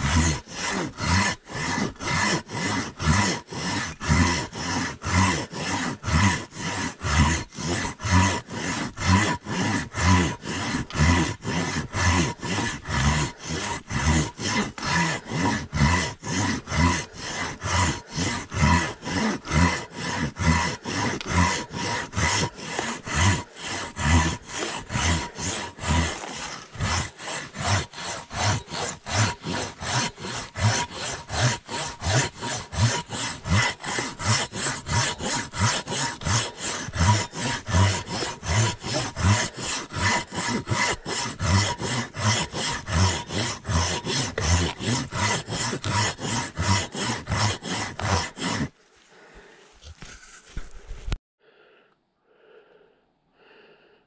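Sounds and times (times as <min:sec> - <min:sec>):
hand saw cutting wood: 0:00.0 - 0:51.2.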